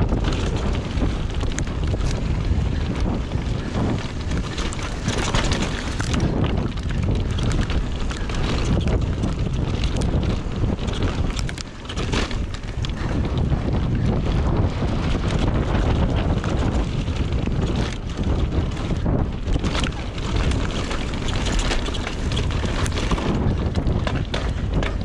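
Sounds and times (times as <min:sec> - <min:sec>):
bike knocks and rattles: 0:00.0 - 0:25.0
tyres rumbling on dirt: 0:00.0 - 0:25.0
wind buffeting microphone: 0:00.0 - 0:25.0.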